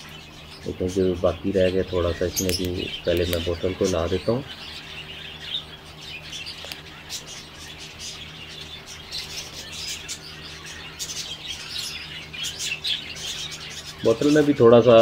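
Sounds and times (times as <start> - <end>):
budgerigars chirping: 0.0 - 15.0
steady low hum: 0.0 - 15.0.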